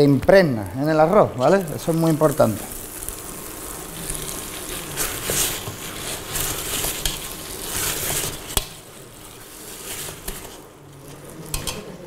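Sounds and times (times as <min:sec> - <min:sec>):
rice sizzling in a pan: 0:00.8 - 0:12.0.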